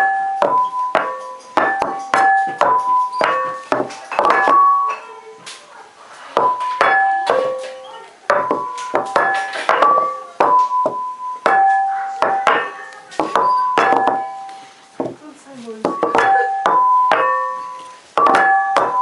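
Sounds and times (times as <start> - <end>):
plates ringing when struck: 0.0 - 5.3, 6.4 - 15.2, 15.8 - 19.0.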